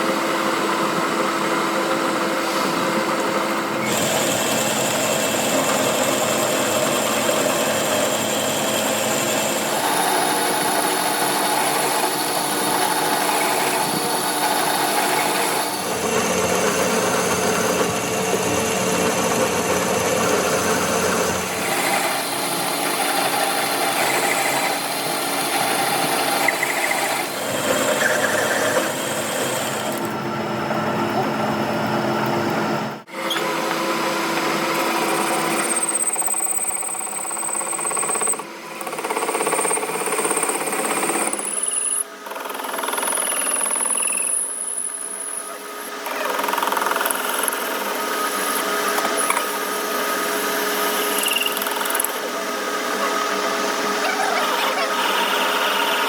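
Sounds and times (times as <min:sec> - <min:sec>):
power tools running: 0:00.0 - 0:56.0.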